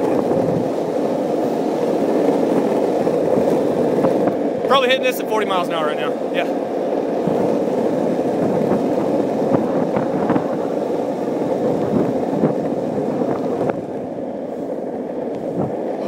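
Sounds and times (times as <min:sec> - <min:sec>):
rolling road noise: 0:00.0 - 0:16.0
wind rushing: 0:00.0 - 0:16.0.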